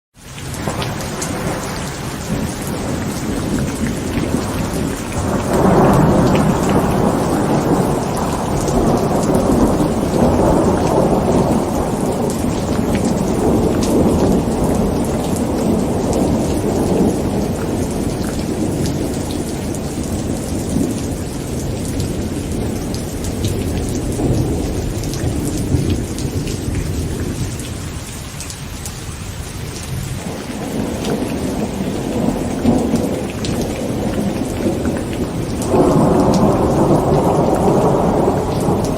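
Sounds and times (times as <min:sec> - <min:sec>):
heavy rain on a tent: 0:00.1 - 0:38.9
rolling thunder: 0:00.5 - 0:28.1, 0:29.8 - 0:38.9.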